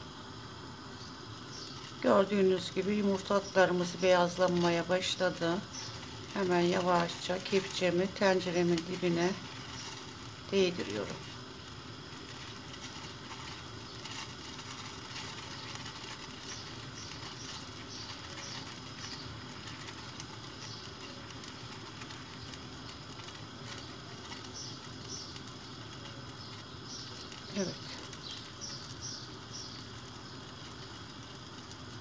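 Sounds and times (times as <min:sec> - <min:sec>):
water simmering in a pot: 0:00.0 - 0:32.0.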